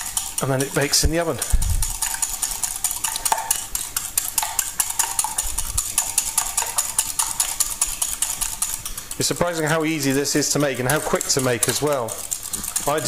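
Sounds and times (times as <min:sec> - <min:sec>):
fork beating eggs in glass: 0:00.0 - 0:13.0.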